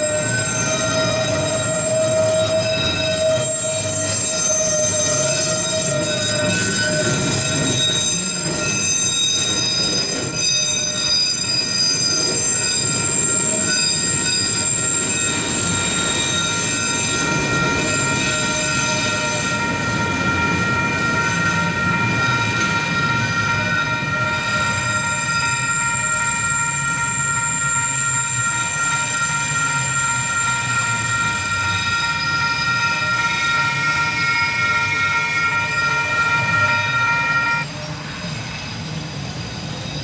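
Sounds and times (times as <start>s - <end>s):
high-pitched wheel squeal: 0.0s - 40.0s
train wheels rumbling on rail: 0.0s - 40.0s.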